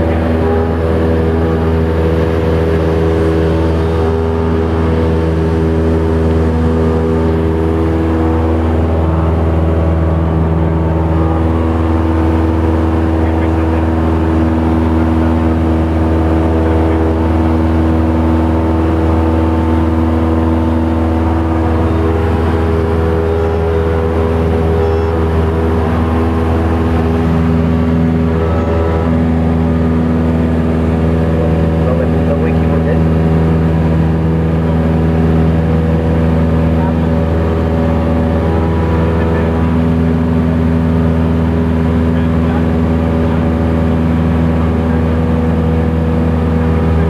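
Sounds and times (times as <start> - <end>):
light aircraft engine drone: 0.0 - 47.0.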